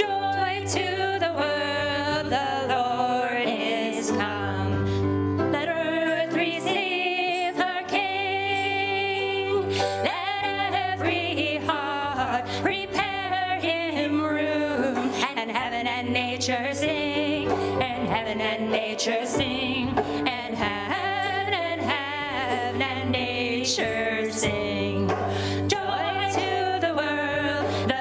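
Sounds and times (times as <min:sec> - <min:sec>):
women singing a carol: 0:00.0 - 0:04.8, 0:05.6 - 0:28.0
piano accompaniment: 0:00.0 - 0:28.0.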